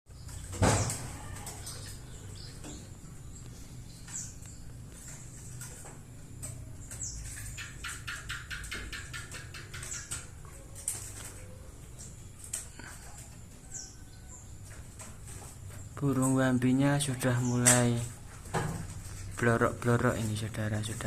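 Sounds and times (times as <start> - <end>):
bird chirping: 0.1 - 18.4.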